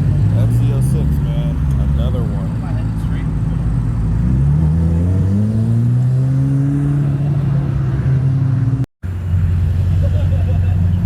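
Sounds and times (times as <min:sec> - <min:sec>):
car engine pulling away: 0:00.0 - 0:11.0.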